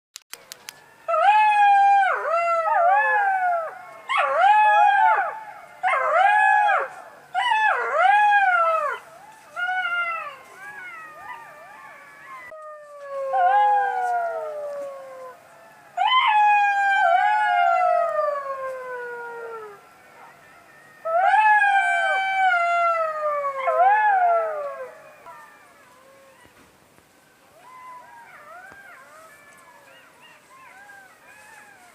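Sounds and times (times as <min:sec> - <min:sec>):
jackals howling in chorus: 0:00.8 - 0:26.6, 0:27.2 - 0:31.9.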